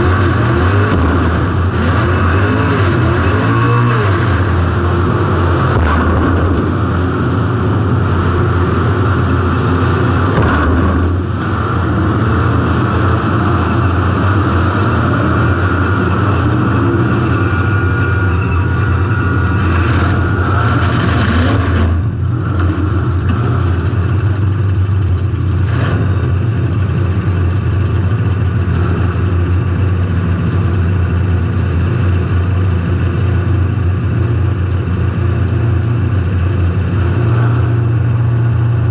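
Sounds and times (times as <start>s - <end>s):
car engine running loud: 0.0s - 38.9s.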